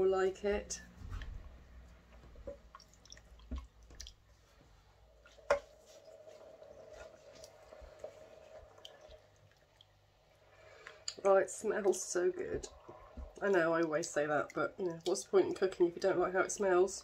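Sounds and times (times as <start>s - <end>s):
faint steady hum: 0.0s - 17.0s
spatula stirring wet mixture: 1.7s - 17.0s.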